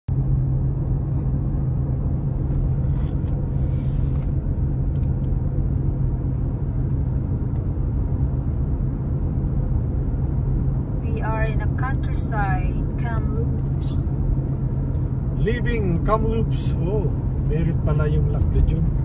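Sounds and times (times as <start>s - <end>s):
car interior road rumble: 0.1s - 19.0s.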